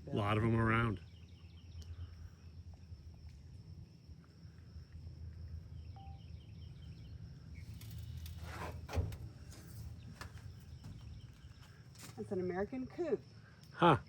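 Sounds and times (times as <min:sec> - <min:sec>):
low wind rumble: 0:00.0 - 0:11.9
high insect drone: 0:00.1 - 0:14.0.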